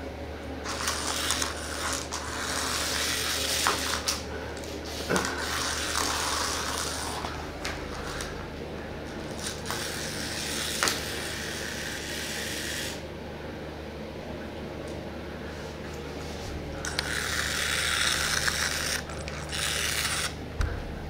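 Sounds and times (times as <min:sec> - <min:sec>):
mechanical whirring hum: 0:00.0 - 0:21.0.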